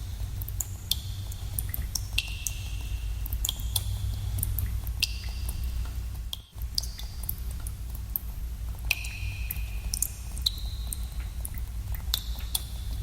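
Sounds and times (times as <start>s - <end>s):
steady low rumble: 0.0s - 13.0s
water drops plinking in cave: 0.1s - 8.3s, 8.9s - 13.0s.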